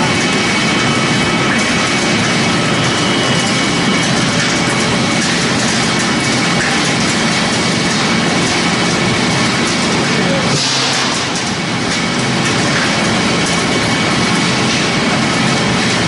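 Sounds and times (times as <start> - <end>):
pellet mill machine noise: 0.0 - 16.0.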